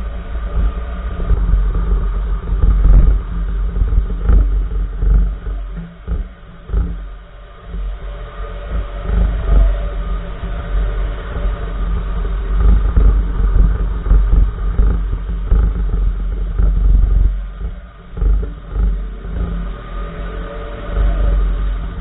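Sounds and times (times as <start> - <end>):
low road rumble: 0.0 - 22.0.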